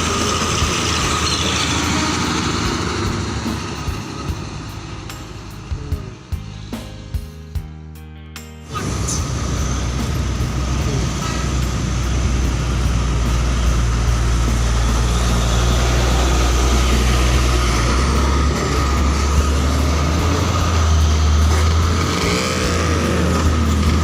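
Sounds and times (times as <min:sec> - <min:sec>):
bus engine rumble: 0:00.0 - 0:06.8, 0:08.7 - 0:24.0
road noise: 0:00.0 - 0:06.9, 0:08.7 - 0:24.0.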